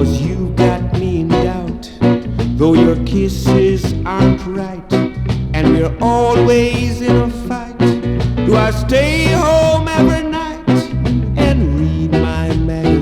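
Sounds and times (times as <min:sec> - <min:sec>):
reggae music from records: 0:00.0 - 0:13.0.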